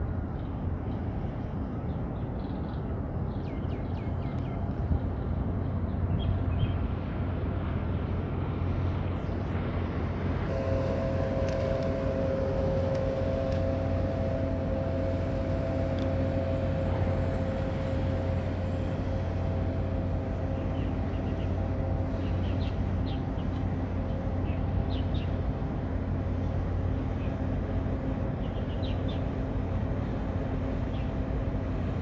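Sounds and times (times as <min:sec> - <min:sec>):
ship engine low drone: 0:00.0 - 0:32.0
steady whine: 0:04.1 - 0:32.0.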